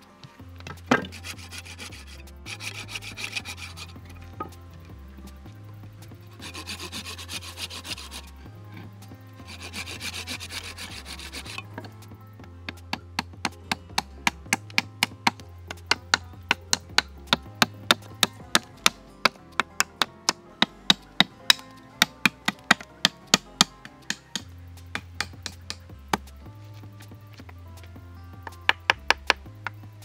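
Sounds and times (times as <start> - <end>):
background music with bass: 0.0 - 30.0
hatchet chopping wood: 0.6 - 4.6, 5.3 - 12.0, 12.7 - 26.4, 28.4 - 29.9.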